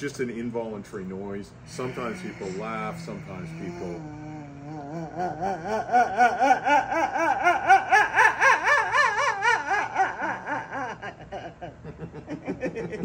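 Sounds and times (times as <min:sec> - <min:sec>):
person laughing: 0:01.7 - 0:13.0.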